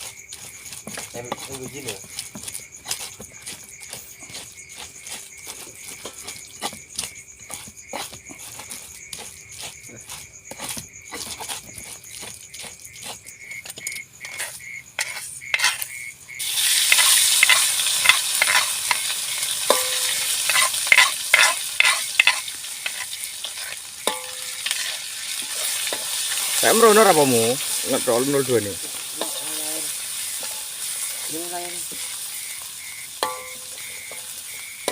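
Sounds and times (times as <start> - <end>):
food frying in oil: 0.0 - 34.9.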